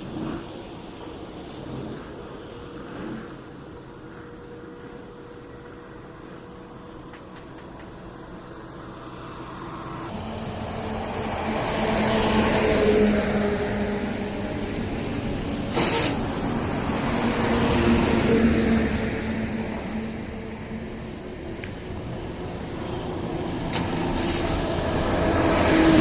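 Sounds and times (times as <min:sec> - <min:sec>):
heavy trucks passing: 0:00.0 - 0:26.0.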